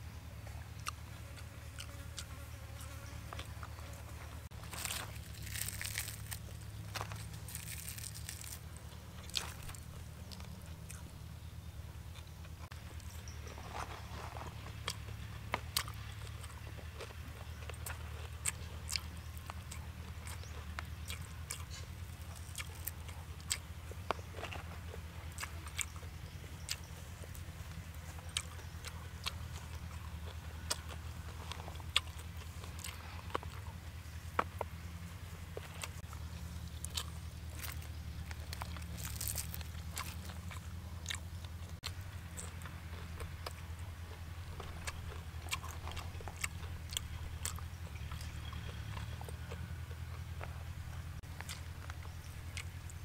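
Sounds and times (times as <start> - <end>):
steady low hum: 0.0 - 53.0
person chewing crunchy food: 0.4 - 11.4, 12.0 - 53.0.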